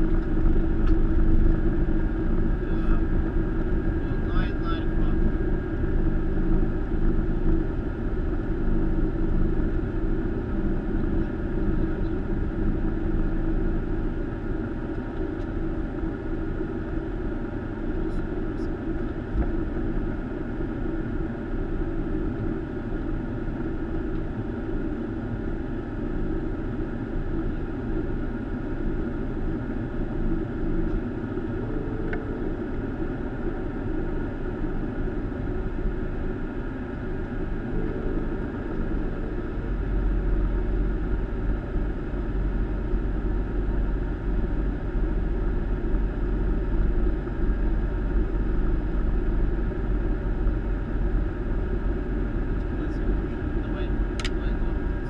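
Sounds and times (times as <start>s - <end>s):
airplane cockpit engine noise: 0.0s - 55.0s
deep rumble: 0.0s - 55.0s.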